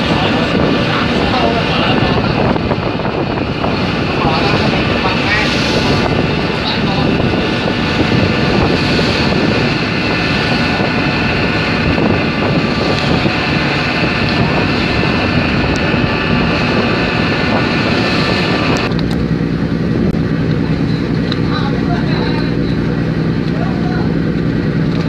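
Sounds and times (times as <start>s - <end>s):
sea rushing past hull: 0.0s - 25.0s
ship engine droning: 0.0s - 25.0s
steady high whine: 0.0s - 25.0s
wind buffeting microphone: 0.0s - 25.0s.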